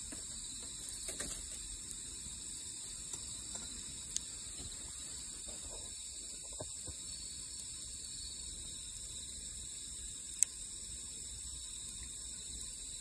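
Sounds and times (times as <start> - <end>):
burning wood crackling: 0.0 - 12.9
crickets chirping: 0.0 - 13.0.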